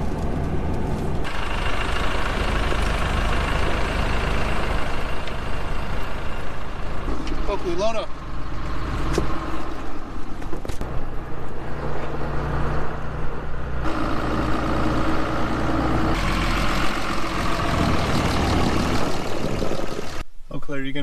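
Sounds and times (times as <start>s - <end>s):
truck engine running: 0.0s - 20.2s
wind and snow noise: 3.8s - 21.0s.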